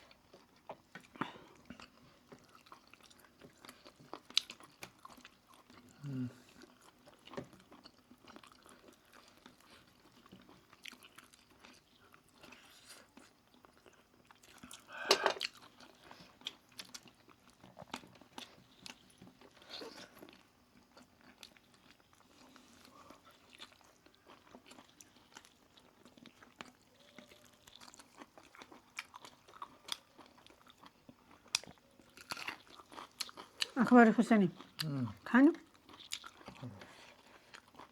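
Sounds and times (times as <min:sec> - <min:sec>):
chewing and biting chicken: 0:00.0 - 0:33.8, 0:35.6 - 0:37.9.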